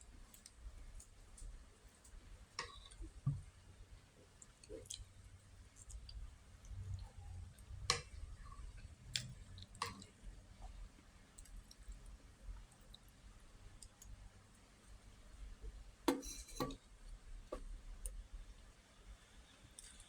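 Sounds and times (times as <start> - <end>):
soft chewing: 0.0 - 15.9, 17.0 - 20.0.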